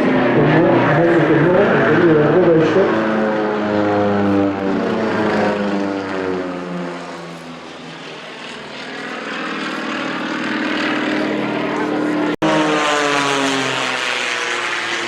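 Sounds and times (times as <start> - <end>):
propeller aeroplane flying past: 0.0 - 15.0.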